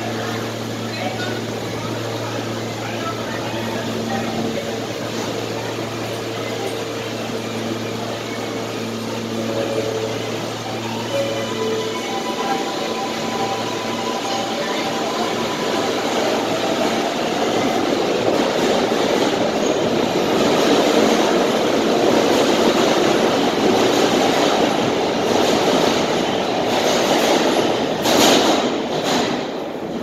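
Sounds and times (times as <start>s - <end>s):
subway train wheels rumbling: 0.0s - 30.0s.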